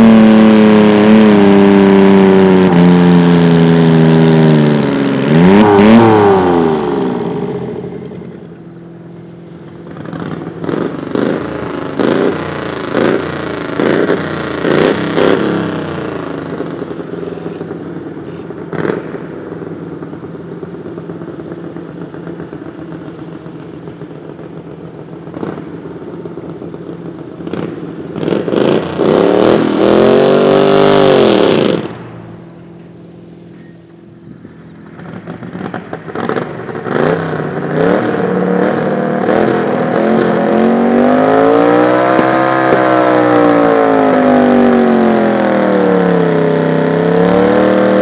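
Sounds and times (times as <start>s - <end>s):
loud tractor engine winding down: 0.0s - 48.0s
v-twin engine revving: 0.0s - 48.0s.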